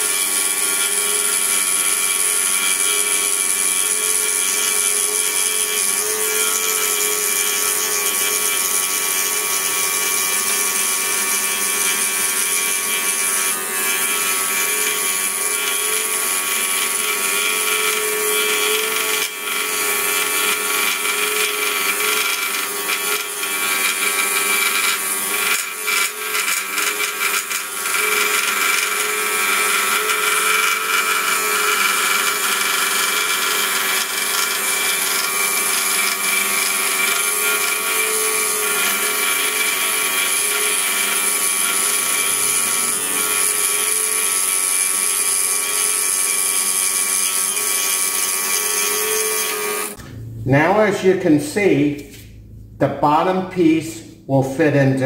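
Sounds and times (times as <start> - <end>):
scroll saw cutting wood: 0.0 - 52.3.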